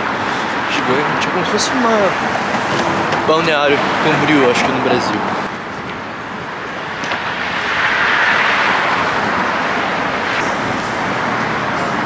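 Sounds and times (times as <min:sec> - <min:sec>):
cars passing on road: 0:00.0 - 0:12.0.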